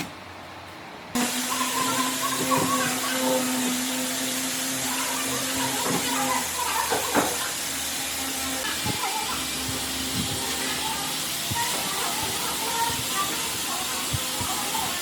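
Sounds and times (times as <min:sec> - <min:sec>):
power tool motor humming: 0:01.2 - 0:15.0.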